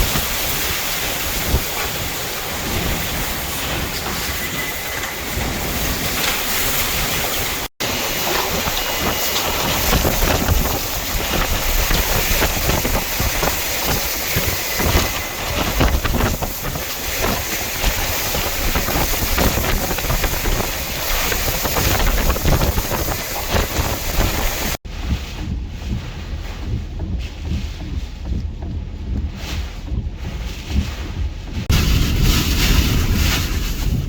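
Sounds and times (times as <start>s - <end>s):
strong wind gusting: 0.0s - 34.0s
wind buffeting microphone: 0.0s - 34.0s.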